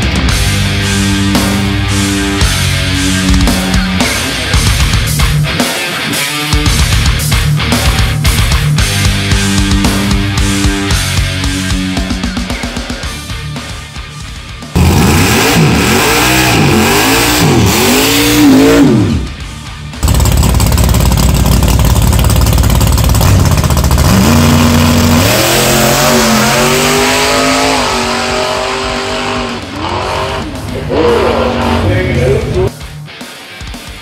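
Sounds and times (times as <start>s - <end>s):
drag car engine revving: 0.0s - 14.0s, 14.6s - 32.7s.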